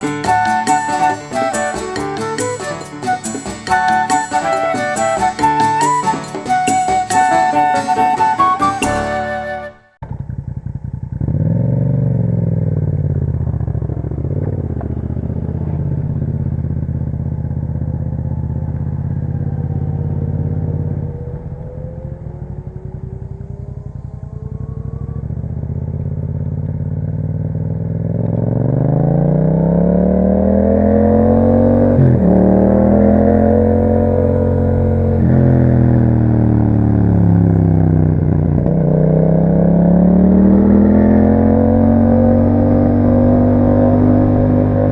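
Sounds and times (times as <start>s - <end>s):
motorcycle engine accelerating: 8.6s - 44.9s.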